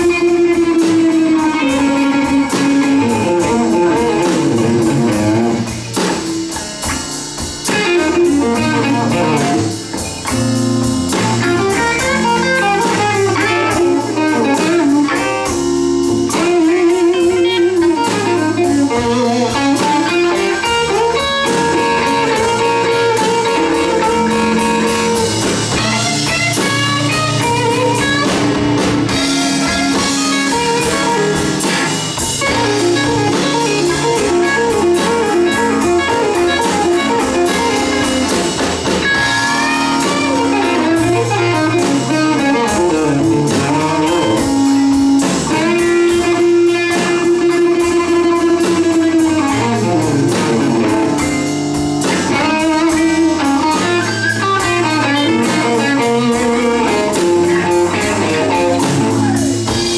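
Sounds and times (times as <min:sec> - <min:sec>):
bass guitar: 0:00.0 - 0:59.9
drum kit: 0:00.0 - 0:59.9
electric guitar lead lines: 0:00.0 - 0:59.9.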